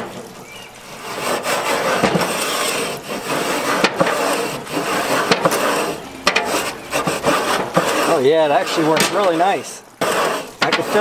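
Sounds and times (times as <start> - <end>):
wooden scraper rasping on grates: 0.0 - 11.0.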